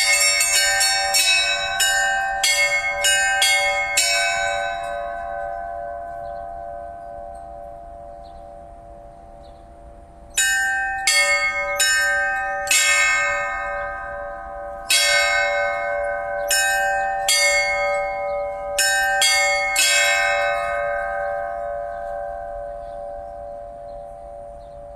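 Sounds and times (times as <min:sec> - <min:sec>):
church bells ringing: 0:00.0 - 0:24.9.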